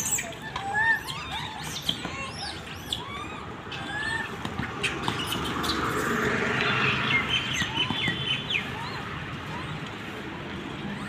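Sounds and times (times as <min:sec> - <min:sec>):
high chirping calls: 0:00.0 - 0:09.8
street noise: 0:00.0 - 0:11.0.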